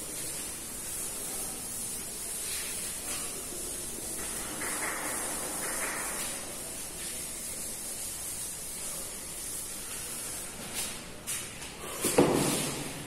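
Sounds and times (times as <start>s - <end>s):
duster rubbing chalkboard: 0.0s - 12.9s
background hiss: 0.0s - 13.0s.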